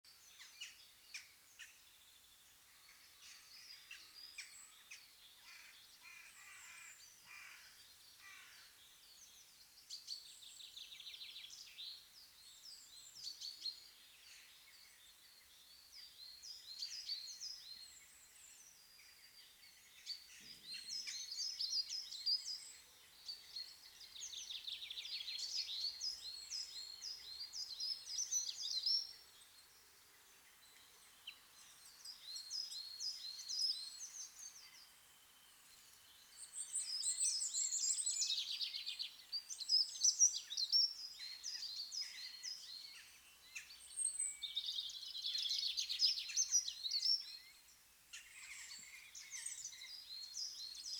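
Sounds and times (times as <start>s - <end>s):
songbirds chirping and trilling: 0.1s - 50.9s.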